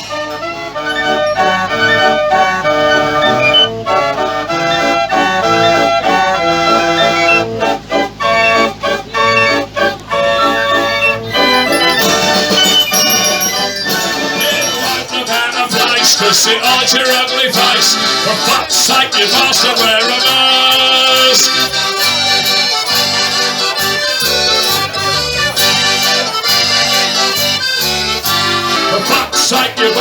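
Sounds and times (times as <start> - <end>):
fairground organ playing: 0.0 - 30.0.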